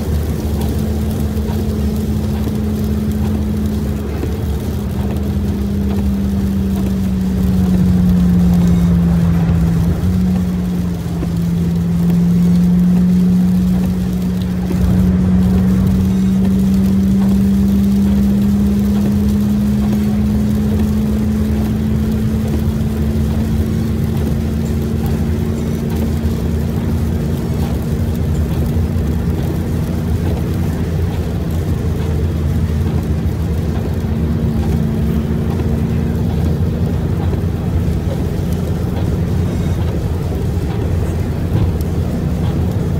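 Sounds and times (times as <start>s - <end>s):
car engine and road drone: 0.0s - 42.9s
tyre rumble on wet road: 0.0s - 42.9s.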